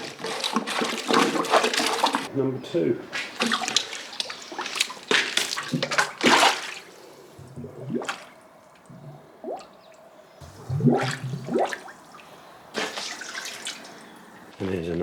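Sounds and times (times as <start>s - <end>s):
sewage squelching and dripping: 0.0s - 2.3s, 3.1s - 15.0s.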